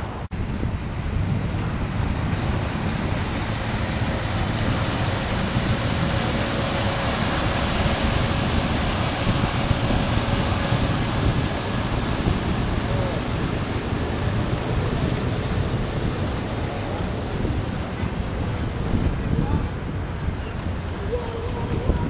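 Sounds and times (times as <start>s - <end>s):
water washing: 0.0s - 22.0s
wind on microphone: 0.0s - 22.0s.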